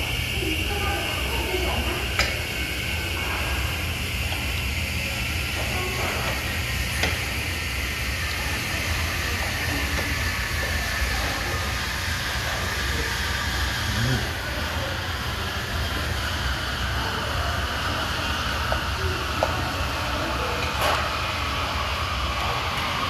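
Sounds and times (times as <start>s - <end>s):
restaurant room noise: 0.0s - 23.0s.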